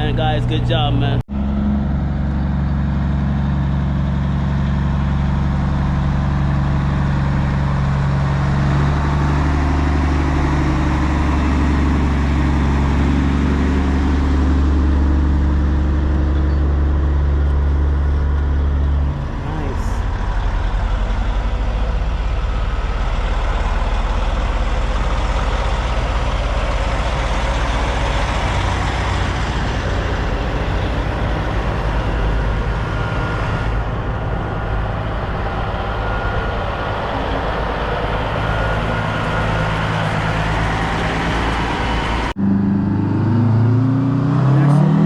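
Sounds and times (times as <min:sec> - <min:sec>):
diesel truck engines rumbling: 0:00.0 - 0:45.0
engine revving up: 0:00.0 - 0:45.0.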